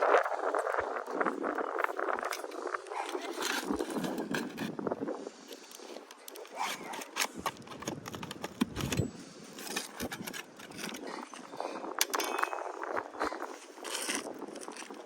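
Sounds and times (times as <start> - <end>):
tools clicking and scraping: 1.4 - 15.0.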